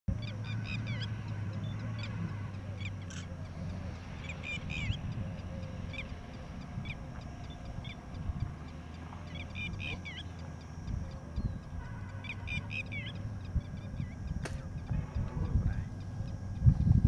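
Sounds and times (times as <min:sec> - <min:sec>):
birds chirping: 0:00.1 - 0:16.8
steady low rumble: 0:00.1 - 0:17.0.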